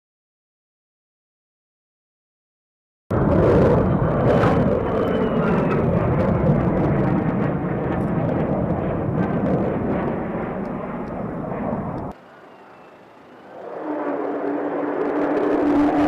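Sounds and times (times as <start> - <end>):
fighter jet engine noise: 3.1 - 16.0.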